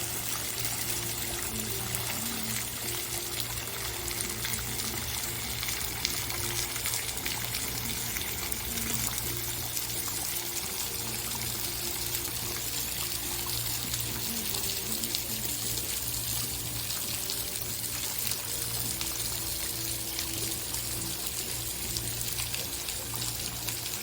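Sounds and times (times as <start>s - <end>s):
water running and trickling: 0.0s - 24.0s.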